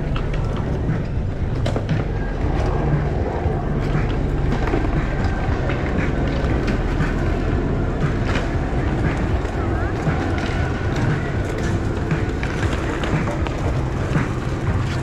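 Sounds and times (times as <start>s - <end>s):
faint voices: 0.0s - 15.0s
low rumble: 0.0s - 15.0s.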